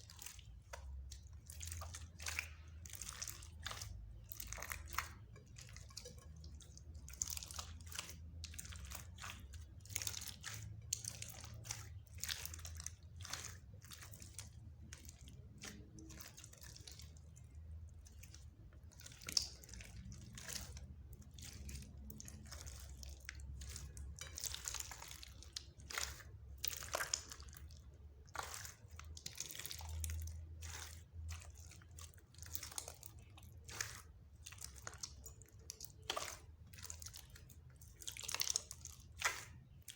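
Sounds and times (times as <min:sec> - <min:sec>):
slime squelching and crackling: 0:00.0 - 0:39.9.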